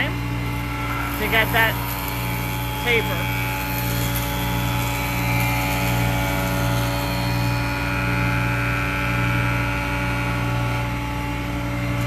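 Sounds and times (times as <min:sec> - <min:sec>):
jointer motor humming: 0:00.0 - 0:12.0.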